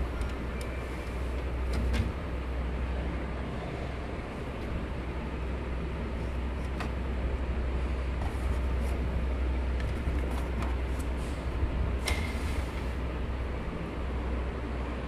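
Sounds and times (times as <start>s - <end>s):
low mechanical hum: 0.0s - 15.0s
noisy rumble: 0.0s - 15.0s.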